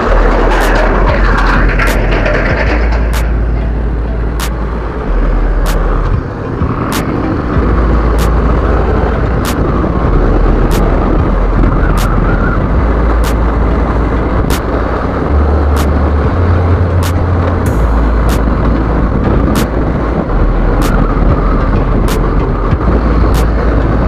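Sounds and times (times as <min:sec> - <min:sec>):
motorcycle engine and road noise: 0:00.0 - 0:24.0
wind rushing over microphone: 0:00.0 - 0:24.0.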